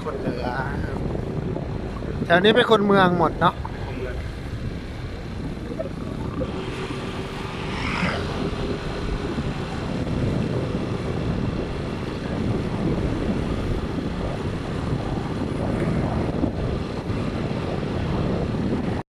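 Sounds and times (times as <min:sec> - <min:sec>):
vehicle driving rumble: 0:00.0 - 0:17.6.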